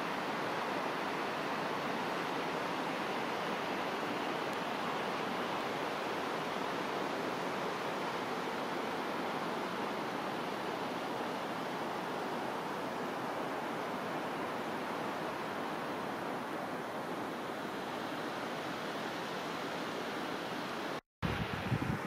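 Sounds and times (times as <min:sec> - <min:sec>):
distant streams and waterfalls rushing: 0:00.0 - 0:22.0.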